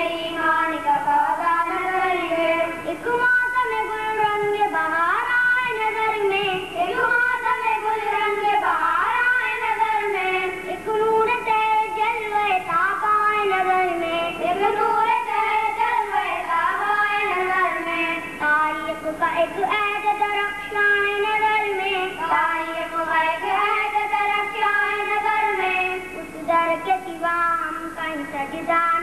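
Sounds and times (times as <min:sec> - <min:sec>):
boy singing into a microphone: 0:00.0 - 0:29.0.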